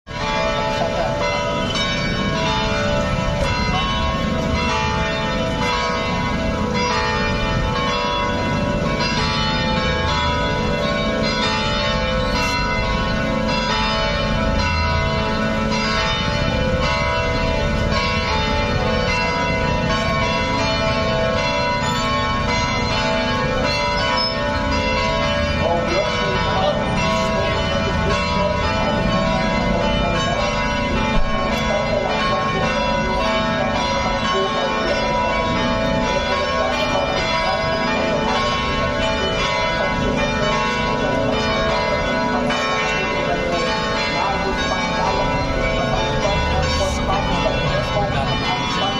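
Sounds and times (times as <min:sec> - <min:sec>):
church bells pealing: 0:00.1 - 0:48.9.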